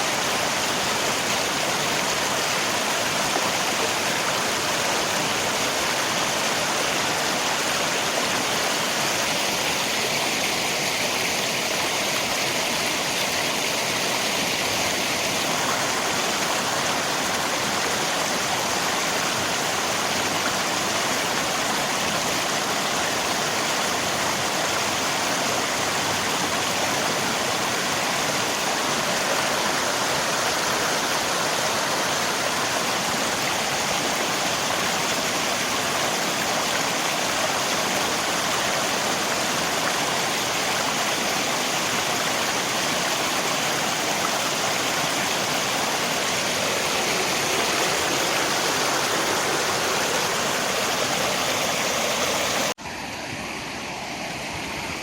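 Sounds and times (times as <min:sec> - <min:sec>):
rain falling: 0:00.0 - 0:52.8
river water rushing: 0:00.0 - 0:55.0.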